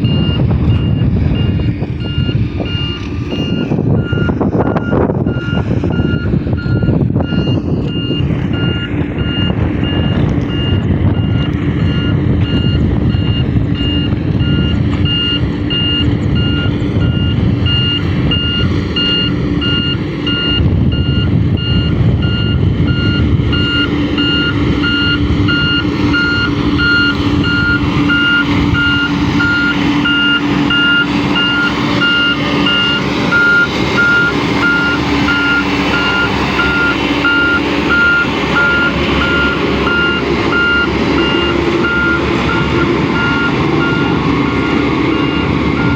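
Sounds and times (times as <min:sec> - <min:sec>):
diesel engine rumble: 0:00.0 - 0:45.9
reversing alarm beeping: 0:00.0 - 0:45.9.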